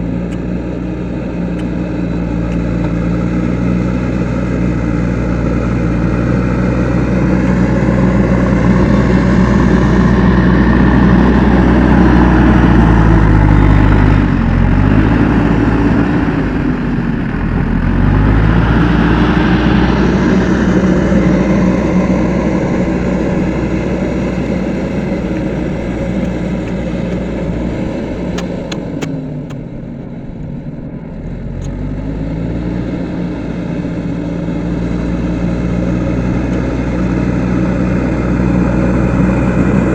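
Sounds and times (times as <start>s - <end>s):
backhoe diesel engine under load: 0.0s - 39.9s.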